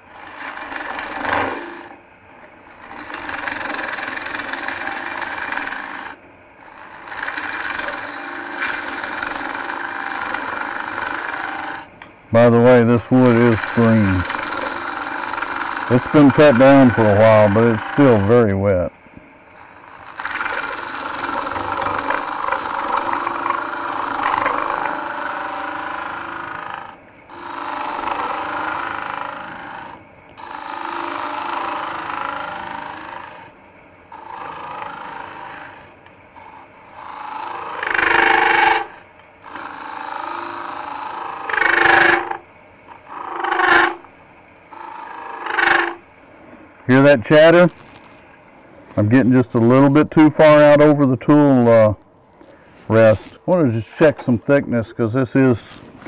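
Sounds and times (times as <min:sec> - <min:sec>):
lathe tool cutting wood: 0:00.0 - 0:46.1
tool chatter bursts: 0:00.0 - 0:48.2.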